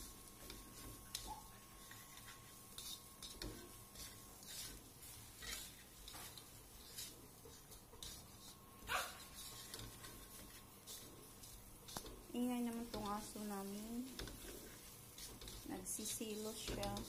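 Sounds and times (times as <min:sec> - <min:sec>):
spatula scraping in a wok: 0:00.0 - 0:17.0.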